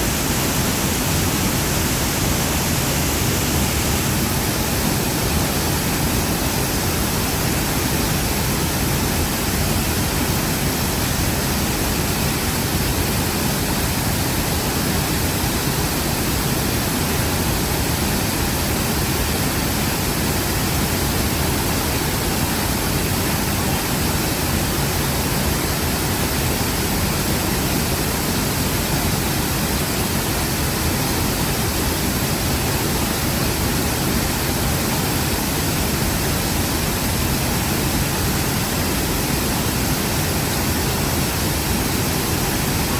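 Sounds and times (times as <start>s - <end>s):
waterfall rushing over rocks: 0.0s - 42.9s.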